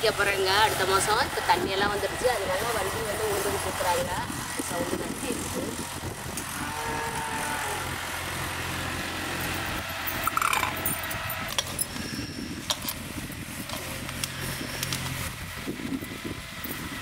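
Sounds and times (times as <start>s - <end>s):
farm machine engine humming: 0.0s - 17.0s.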